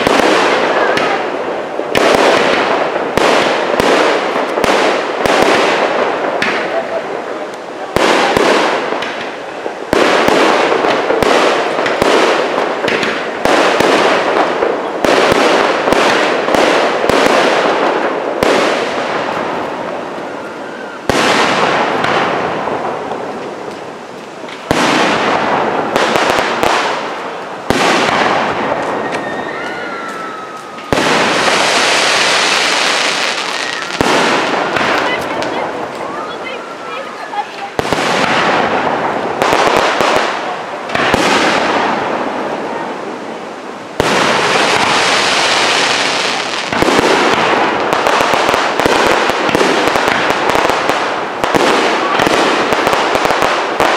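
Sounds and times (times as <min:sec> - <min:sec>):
crackling hiss of firework stars: 0:00.0 - 0:53.9.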